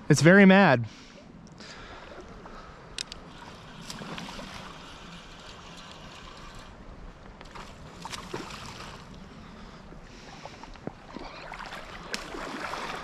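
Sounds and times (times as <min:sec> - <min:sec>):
creek water rushing and lapping: 0:00.9 - 0:13.0.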